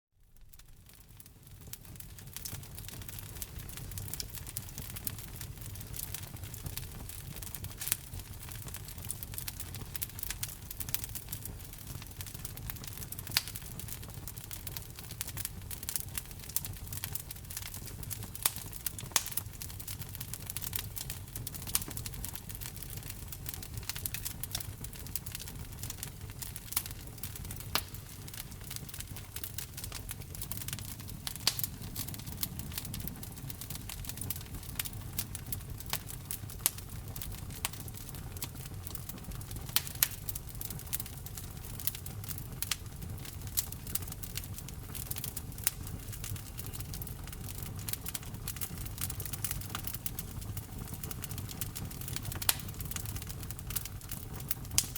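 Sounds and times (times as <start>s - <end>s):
low fire rumble: 0.3s - 54.9s
wood fire crackling and popping: 0.3s - 54.9s.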